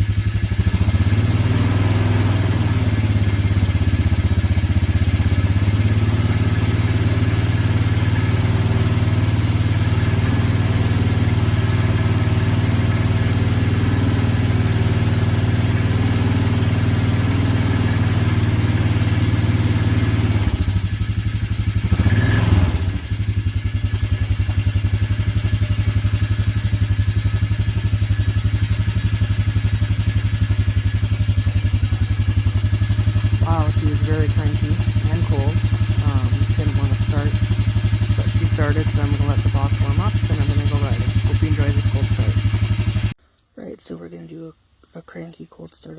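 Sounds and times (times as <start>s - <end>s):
vehicle engine idling: 0.0s - 43.2s.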